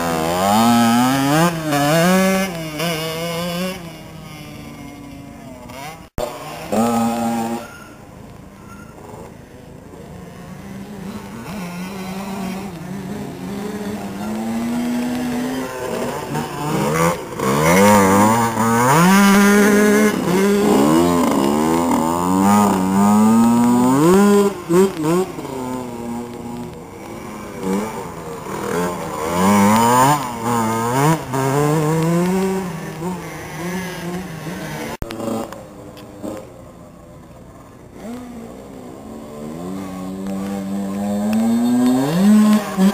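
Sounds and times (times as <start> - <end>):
motocross bike engine revving: 0.0 - 8.0, 10.0 - 36.6, 37.7 - 42.9.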